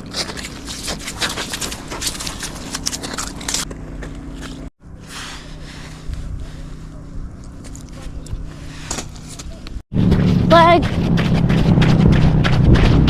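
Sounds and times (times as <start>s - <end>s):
footsteps crunching on snow: 0.0s - 6.9s, 7.5s - 13.0s
steady low hum: 0.0s - 13.0s.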